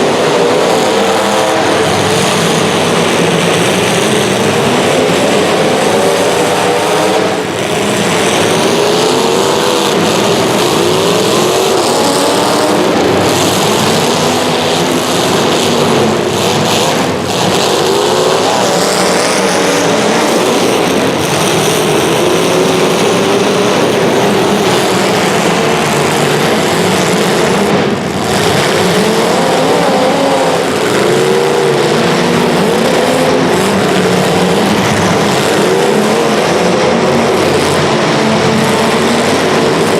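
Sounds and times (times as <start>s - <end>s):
small race car engines revving: 0.0s - 39.9s.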